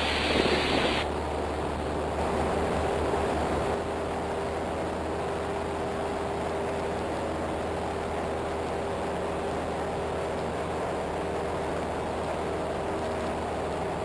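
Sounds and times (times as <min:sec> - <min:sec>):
light aircraft engine and propeller drone: 0:00.0 - 0:14.0.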